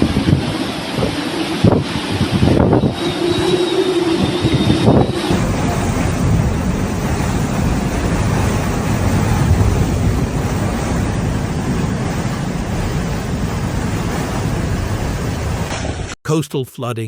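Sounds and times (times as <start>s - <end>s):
wind blasting microphone: 0.0s - 16.1s.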